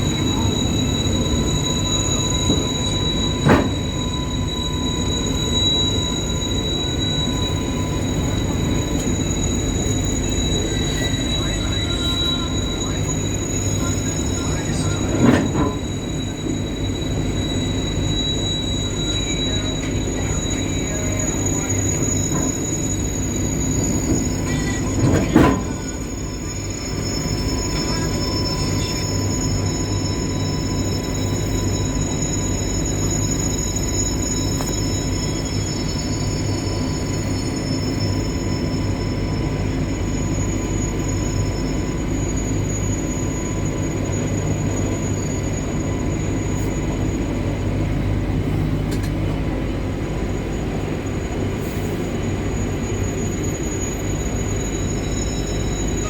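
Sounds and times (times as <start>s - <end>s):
high-pitched whines: 0.0s - 56.0s
locomotive low rumble: 0.0s - 56.0s.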